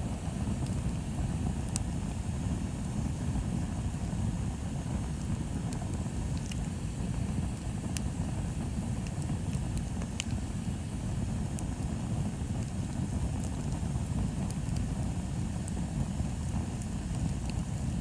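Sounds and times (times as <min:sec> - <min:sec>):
bonfire crackling and popping: 0:00.0 - 0:18.0
low fire rumble: 0:00.0 - 0:18.0.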